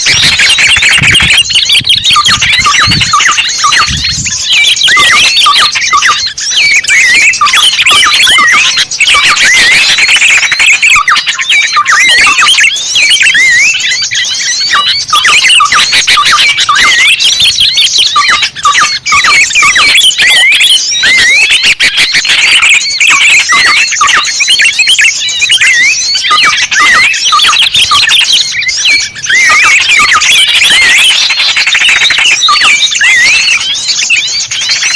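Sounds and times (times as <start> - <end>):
small songbirds chirping: 0.0 - 34.9.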